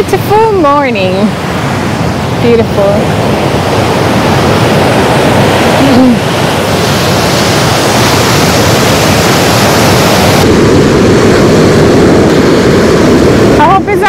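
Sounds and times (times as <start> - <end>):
sea surf rushing on shore: 0.0 - 14.0.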